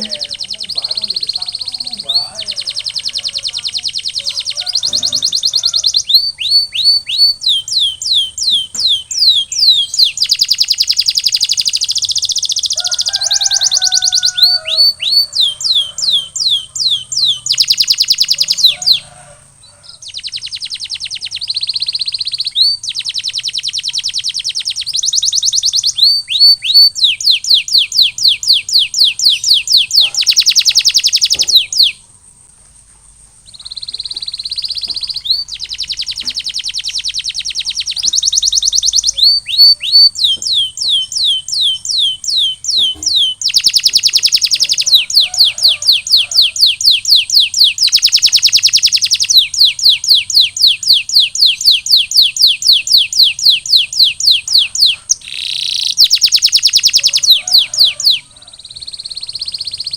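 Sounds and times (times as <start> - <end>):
canary singing: 0.0 - 32.2, 33.3 - 59.9.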